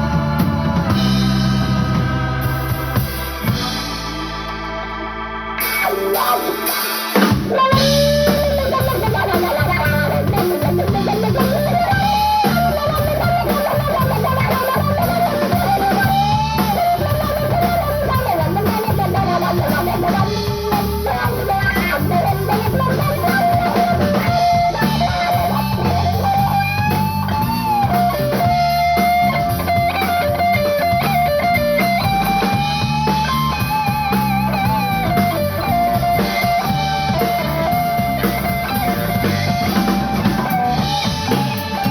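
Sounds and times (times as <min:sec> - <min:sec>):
lead guitar bent notes: 0:00.0 - 0:41.9
rock band playing: 0:00.0 - 0:41.9.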